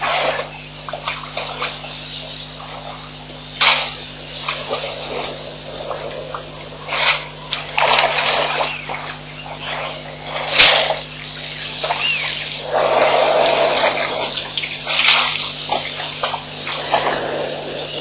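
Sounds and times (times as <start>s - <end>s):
low steady hum: 0.0s - 18.0s
water splashing and sloshing: 0.0s - 18.0s.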